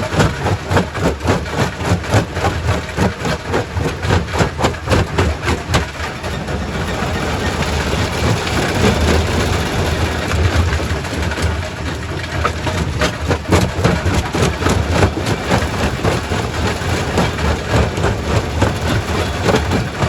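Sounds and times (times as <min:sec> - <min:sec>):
rock crusher rumbling: 0:00.0 - 0:20.0.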